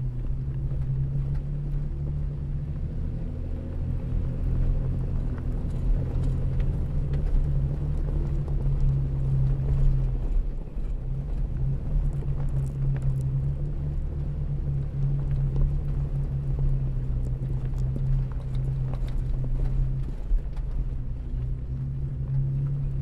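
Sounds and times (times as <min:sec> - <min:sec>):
off-road vehicle engine droning: 0:00.0 - 0:23.0.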